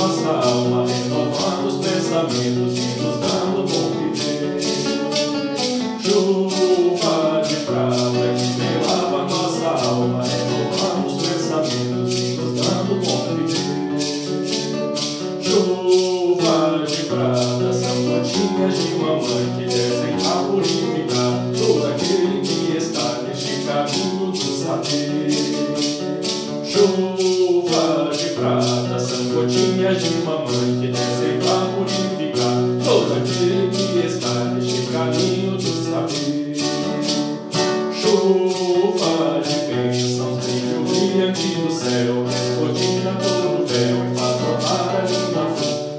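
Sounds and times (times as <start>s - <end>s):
person singing a hymn: 0.0s - 14.6s, 15.4s - 25.9s, 26.6s - 37.1s, 37.9s - 45.9s
acoustic guitar: 0.0s - 45.9s
shaker beat: 0.0s - 45.9s.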